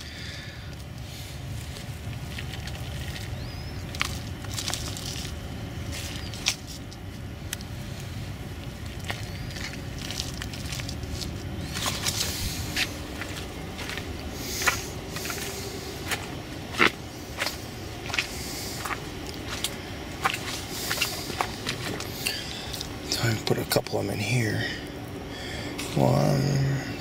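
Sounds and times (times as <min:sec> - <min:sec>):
footsteps through garden plants: 0:00.0 - 0:23.8.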